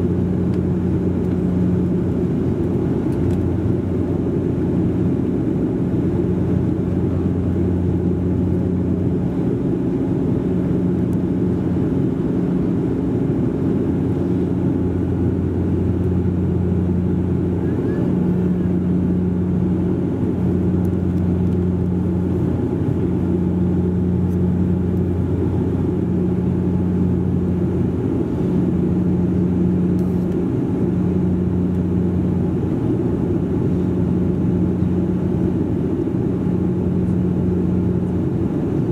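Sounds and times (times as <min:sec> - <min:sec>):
propeller drone: 0:00.0 - 0:38.9.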